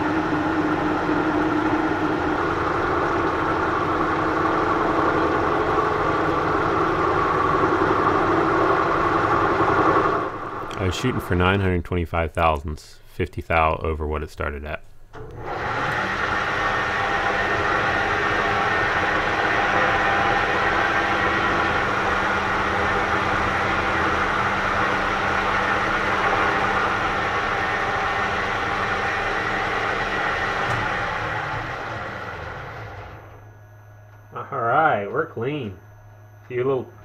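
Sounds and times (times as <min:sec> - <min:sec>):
lathe motor hum: 0:00.0 - 0:11.4, 0:15.2 - 0:33.5.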